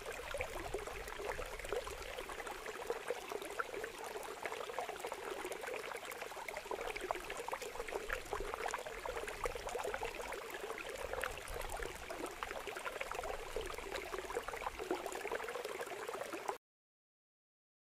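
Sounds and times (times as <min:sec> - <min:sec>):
water pouring and splashing: 0:00.0 - 0:16.6.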